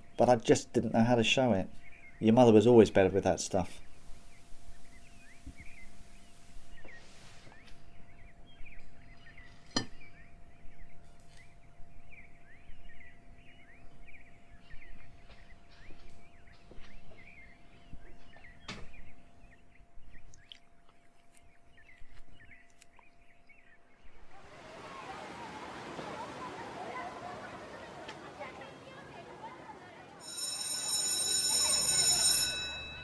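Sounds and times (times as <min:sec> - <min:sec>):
small birds chirping: 0:00.0 - 0:30.2.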